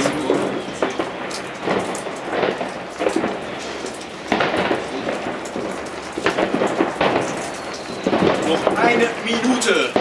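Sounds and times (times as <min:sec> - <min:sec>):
firecracker bangs: 0:00.0 - 0:10.0
fireworks crackling: 0:00.0 - 0:10.0.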